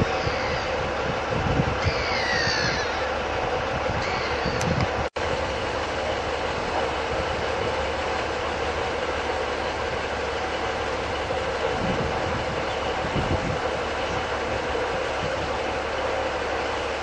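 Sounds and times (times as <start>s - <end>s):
diesel train engine idling: 0.0s - 17.0s.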